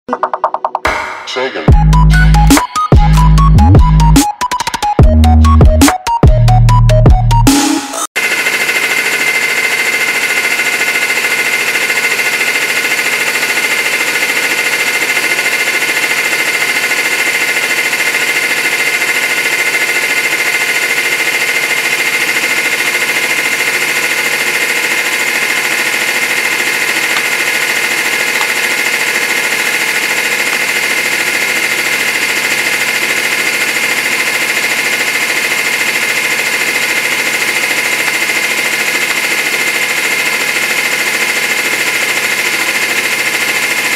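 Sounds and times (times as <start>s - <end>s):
hydraulic press pump humming: 8.2s - 43.9s.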